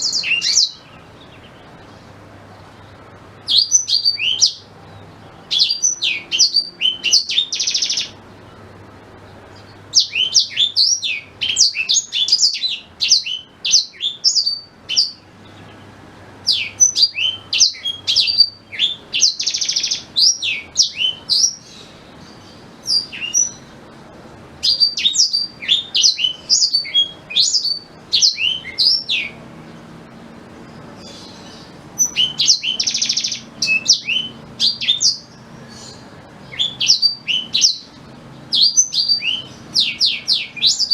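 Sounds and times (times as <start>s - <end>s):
canary chirps and trills: 0.0s - 40.9s
faint low hum: 0.0s - 40.9s.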